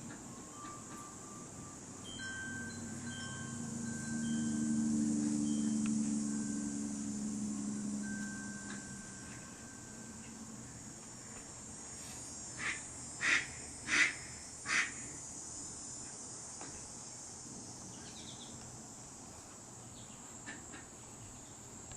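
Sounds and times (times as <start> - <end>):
crickets chirring: 0.0 - 21.9.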